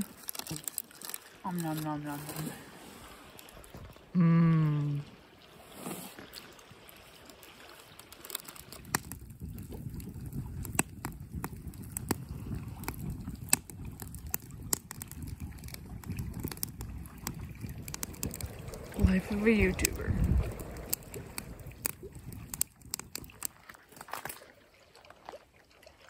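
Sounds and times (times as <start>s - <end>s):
campfire crackling and popping: 0.0s - 4.0s, 6.2s - 24.5s
lake water lapping: 0.0s - 26.0s.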